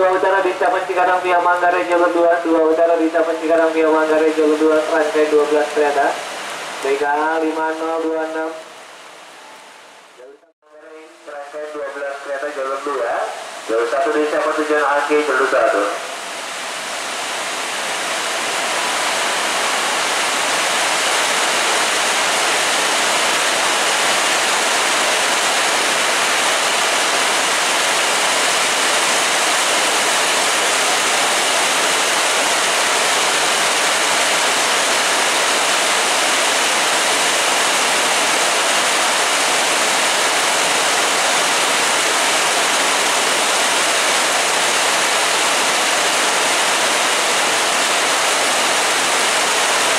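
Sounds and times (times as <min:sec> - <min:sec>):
heavy rain pouring: 0:00.0 - 0:10.2, 0:11.1 - 0:49.9.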